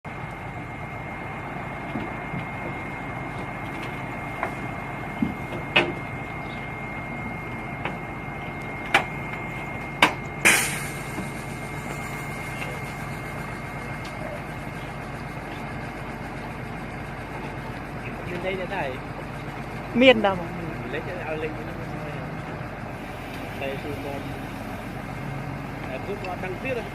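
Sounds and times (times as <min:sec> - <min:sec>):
excavator engine with high whine: 0:00.0 - 0:26.9.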